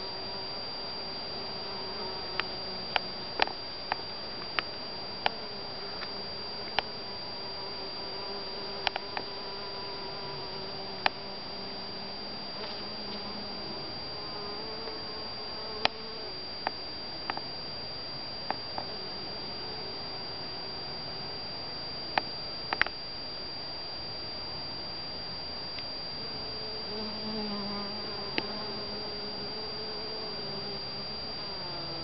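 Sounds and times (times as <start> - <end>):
honeybee buzzing: 0.0 - 21.4, 25.6 - 32.0
steady high whine: 0.0 - 32.0.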